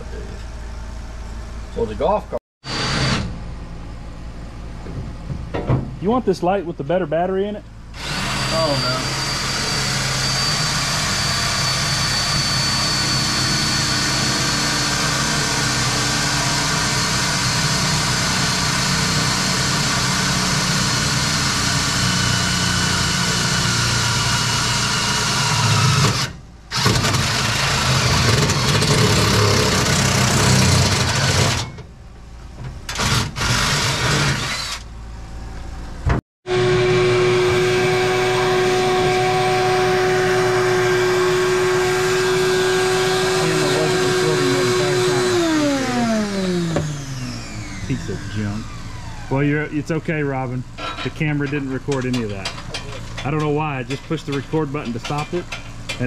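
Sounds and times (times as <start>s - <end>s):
shop vacuum running: 4.8s - 31.8s, 35.5s - 56.0s.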